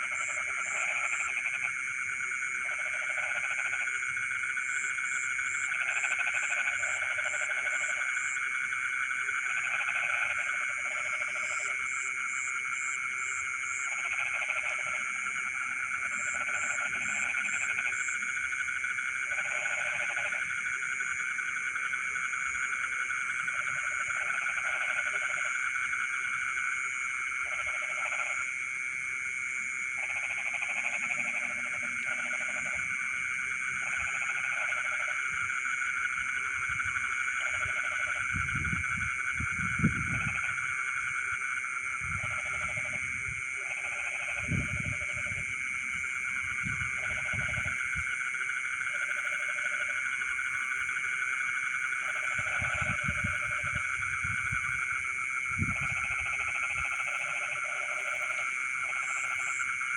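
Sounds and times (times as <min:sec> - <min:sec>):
frogs croaking: 0:00.0 - 0:59.9
frogs trilling: 0:00.0 - 0:59.9.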